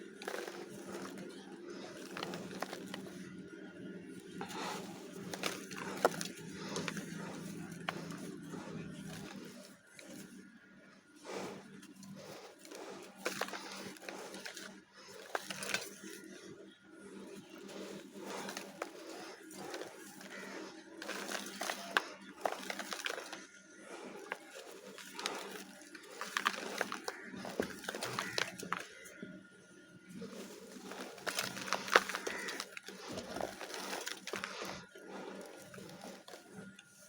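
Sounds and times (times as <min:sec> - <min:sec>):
dry clay crumbling: 0:00.0 - 0:37.0.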